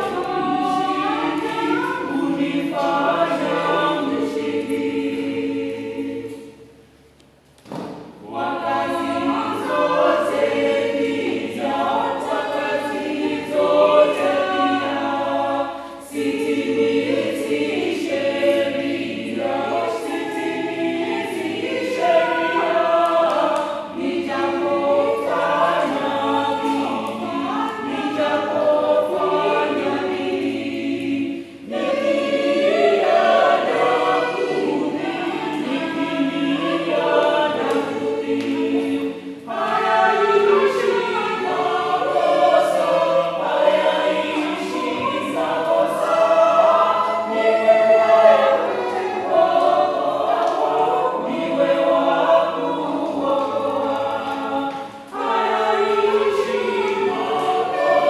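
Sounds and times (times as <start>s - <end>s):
choir singing a hymn: 0.0s - 7.0s, 7.7s - 58.0s.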